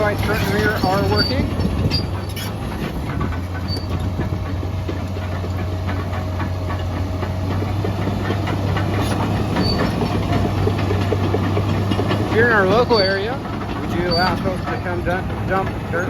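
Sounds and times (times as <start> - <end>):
diesel engine running: 0.0 - 16.0
light clicking rattles: 0.0 - 16.0.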